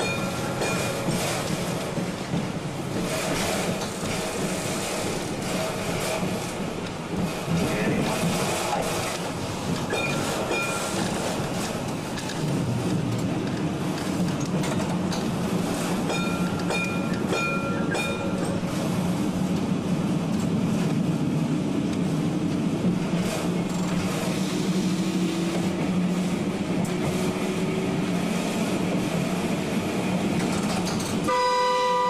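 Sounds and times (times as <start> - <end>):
tram wheels rumbling on rails: 0.0 - 32.0.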